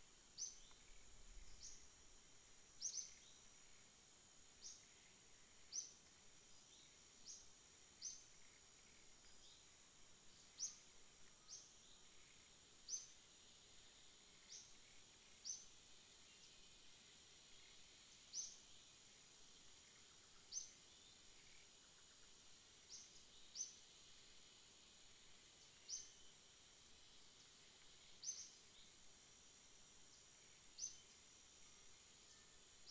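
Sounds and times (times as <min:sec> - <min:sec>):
high insect drone: 0:00.0 - 0:32.9.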